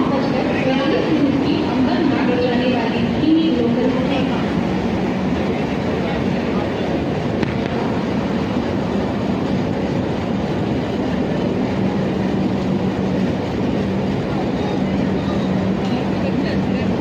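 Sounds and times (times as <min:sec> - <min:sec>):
train noise: 0:00.0 - 0:17.0.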